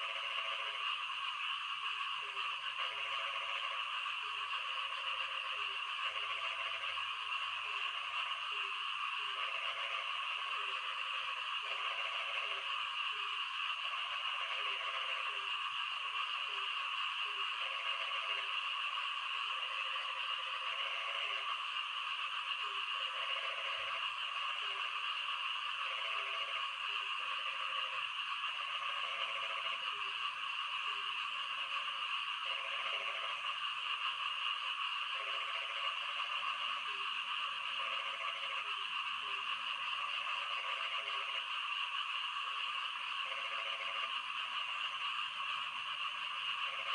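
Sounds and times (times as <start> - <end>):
frog croaking: 0.0 - 46.9
high-pitched frog chorus: 0.0 - 46.9.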